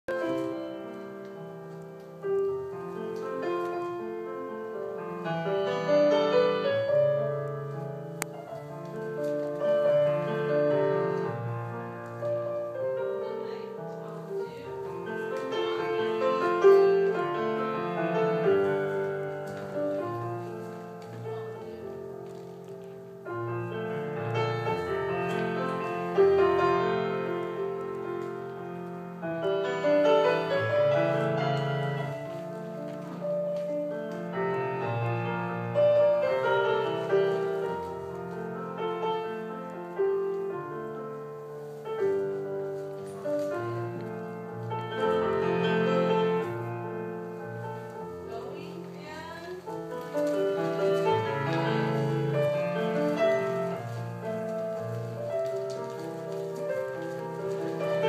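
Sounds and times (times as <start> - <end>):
classical piano music: 0.0 - 58.0.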